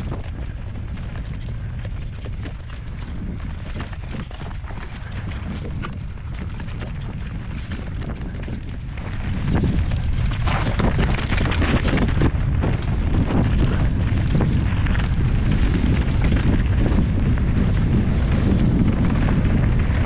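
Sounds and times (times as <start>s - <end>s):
bike clattering over rough trail: 0.0s - 20.0s
wind buffeting microphone: 0.0s - 20.0s.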